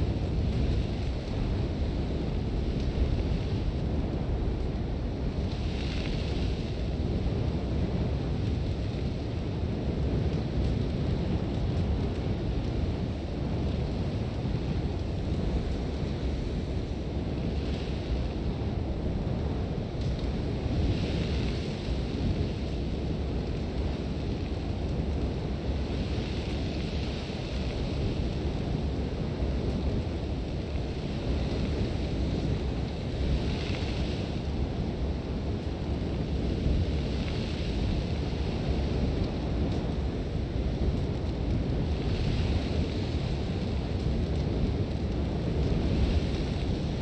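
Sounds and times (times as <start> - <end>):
deep wind rumble: 0.0 - 47.0.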